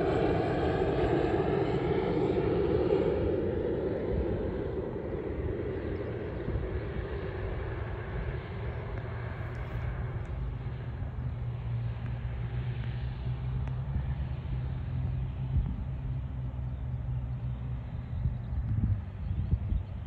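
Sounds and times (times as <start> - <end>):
low hum and rumble: 0.0 - 20.0
turboprop plane droning: 0.0 - 20.0.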